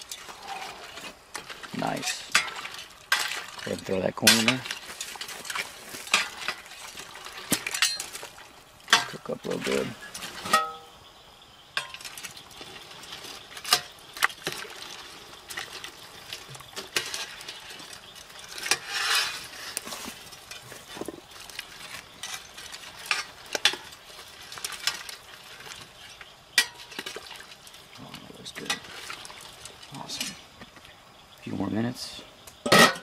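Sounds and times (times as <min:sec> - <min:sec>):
metal utensils clinking on pot: 0:00.9 - 0:10.9, 0:11.8 - 0:27.6, 0:28.4 - 0:30.4, 0:32.6 - 0:33.0.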